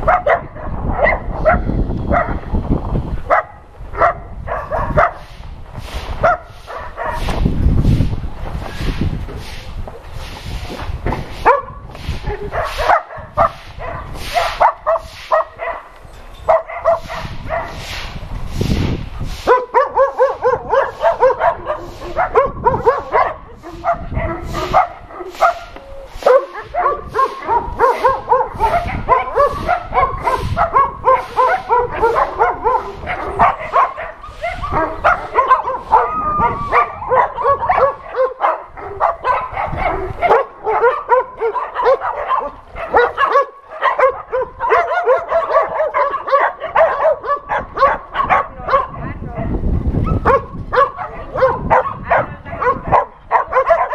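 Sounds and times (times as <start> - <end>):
dogs barking: 0.0 - 2.5, 3.3 - 5.3, 6.2 - 7.3, 11.4 - 17.8, 19.4 - 53.9.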